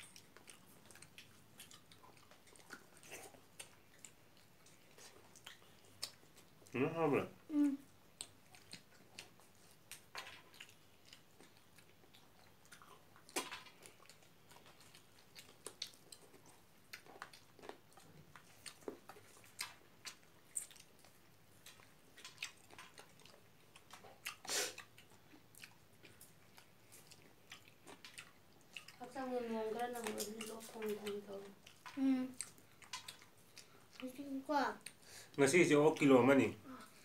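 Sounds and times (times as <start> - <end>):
wet chewing and mouth clicks: 0.0 - 6.8, 7.6 - 35.3.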